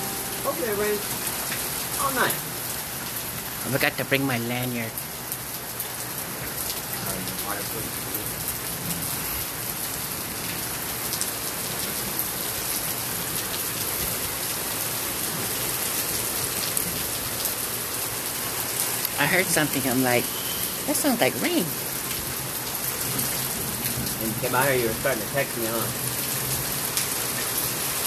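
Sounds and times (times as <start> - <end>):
steady rain spattering: 0.0 - 28.0.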